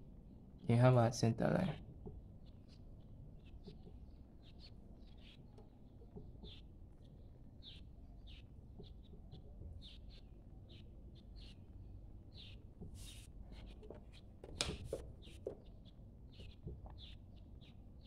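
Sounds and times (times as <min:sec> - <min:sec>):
faint bird chirps: 0:02.4 - 0:14.3, 0:15.2 - 0:18.0.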